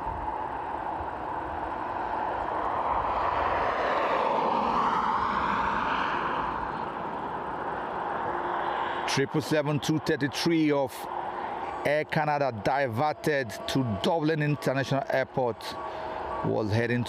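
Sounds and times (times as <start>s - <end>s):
jet engines passing close by: 0.0s - 17.0s.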